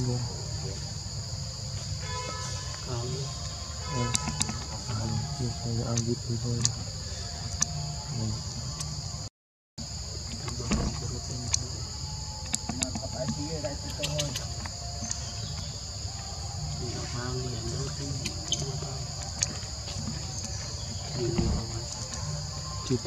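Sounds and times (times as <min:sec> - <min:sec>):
faint wavering voice-like calls: 0:00.0 - 0:09.2, 0:10.1 - 0:23.0
insects buzzing: 0:00.0 - 0:23.0.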